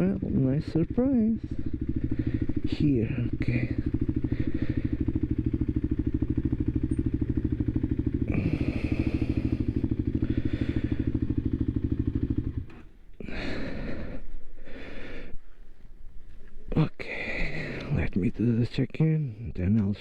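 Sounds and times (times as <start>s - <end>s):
motorcycle engine idling: 0.0s - 18.8s.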